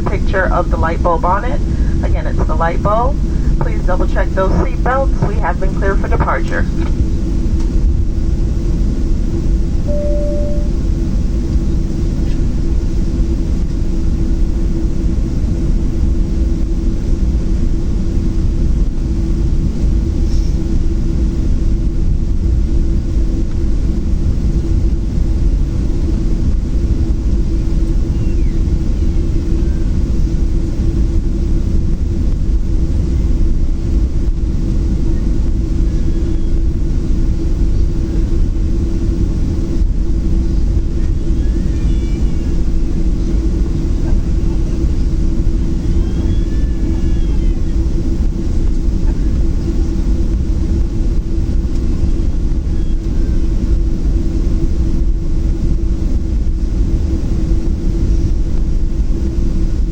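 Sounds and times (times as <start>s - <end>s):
airplane cabin rumble: 0.0s - 59.9s
low droning hum: 0.0s - 59.9s.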